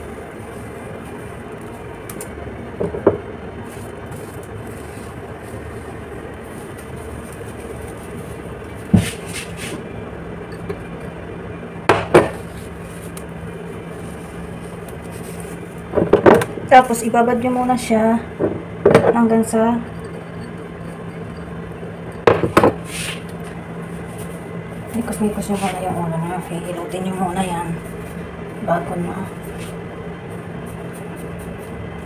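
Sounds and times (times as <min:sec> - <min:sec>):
low steady hum: 0:00.0 - 0:32.0
rumbling background noise: 0:00.0 - 0:32.0.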